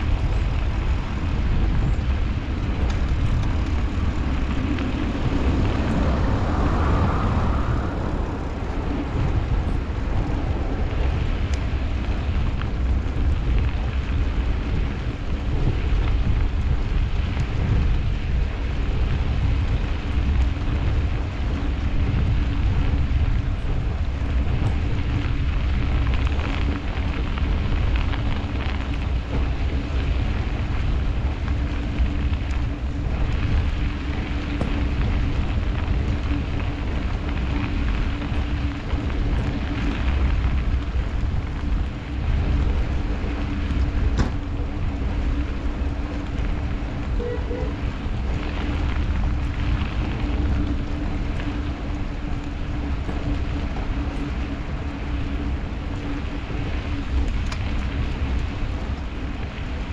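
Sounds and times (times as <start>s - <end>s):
tyres on snowy road: 0.0s - 59.9s
wind on microphone: 0.0s - 59.9s.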